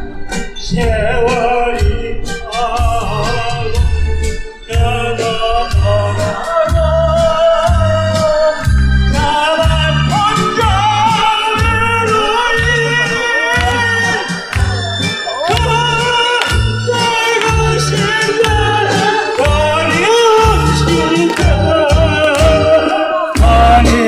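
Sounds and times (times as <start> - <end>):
amplified backing music: 0.0 - 24.0
person singing live: 0.0 - 24.0.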